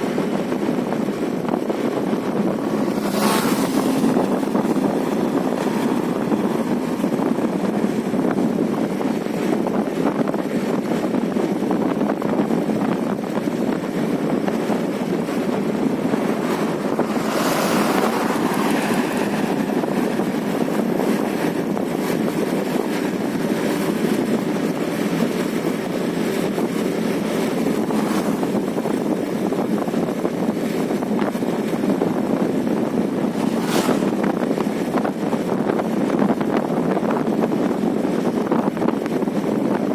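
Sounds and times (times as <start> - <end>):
vehicle road noise: 0.0 - 39.9
wind rush on microphone: 0.0 - 39.9.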